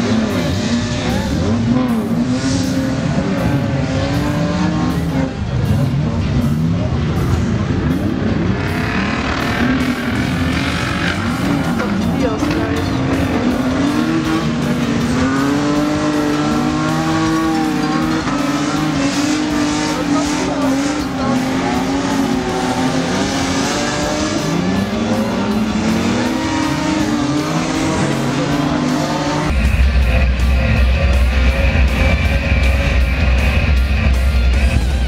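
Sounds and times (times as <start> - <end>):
loud rock music: 0.0 - 35.0
race car engines revving: 0.0 - 35.0.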